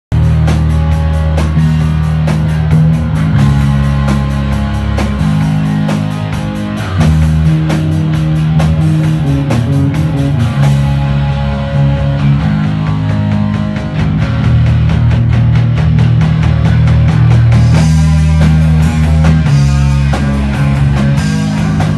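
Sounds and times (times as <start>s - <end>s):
heavy bass notes: 0.1s - 21.9s
live rock band playing: 0.1s - 21.9s.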